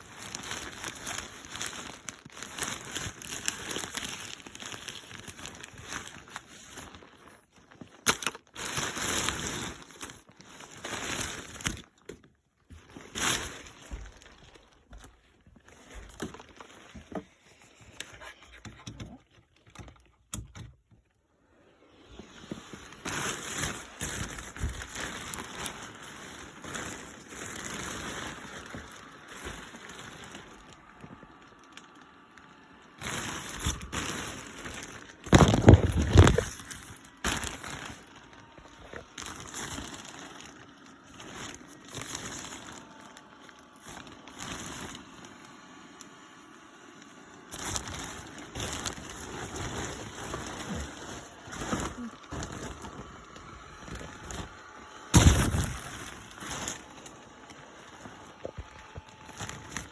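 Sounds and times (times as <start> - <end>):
packaging rustling and crinkling: 0.0 - 59.9.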